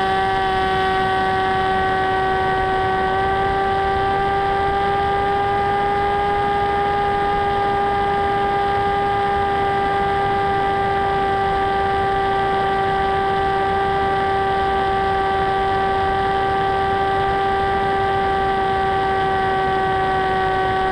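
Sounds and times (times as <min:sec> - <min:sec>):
electric motor whine: 0:00.0 - 0:20.9.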